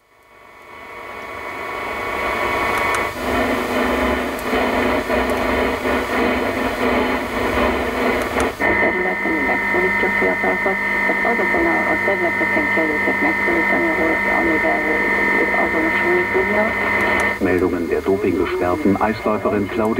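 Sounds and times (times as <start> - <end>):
radio static hiss: 0.0 - 19.9
radio whistle tones: 1.3 - 19.9.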